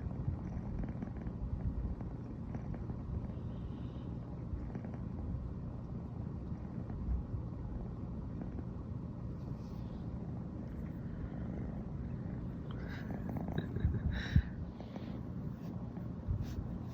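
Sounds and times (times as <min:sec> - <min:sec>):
cat purring: 0:00.0 - 0:16.9.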